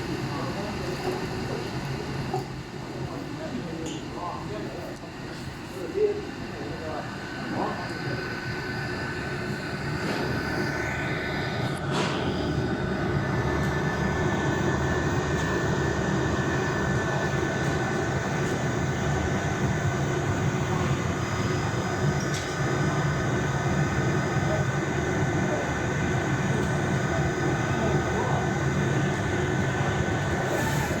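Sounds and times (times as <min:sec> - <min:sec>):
printer humming and whirring: 0:00.0 - 0:31.0.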